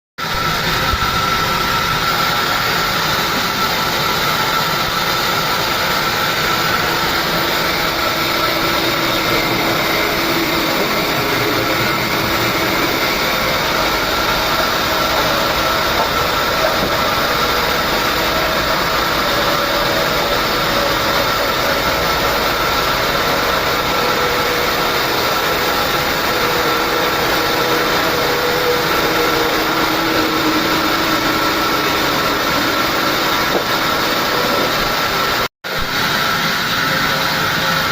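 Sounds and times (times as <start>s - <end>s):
sawmill saw cutting log: 0.2s - 37.9s.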